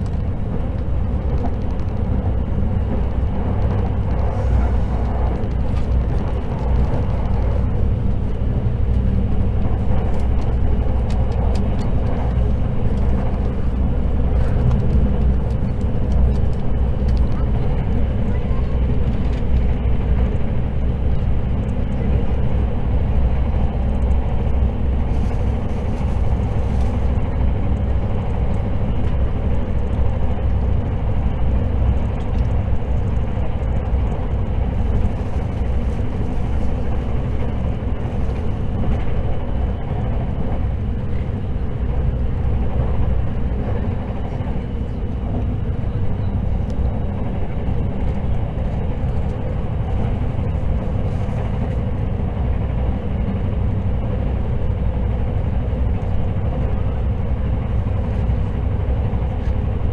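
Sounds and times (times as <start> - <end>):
train cabin rumble: 0.0 - 59.9.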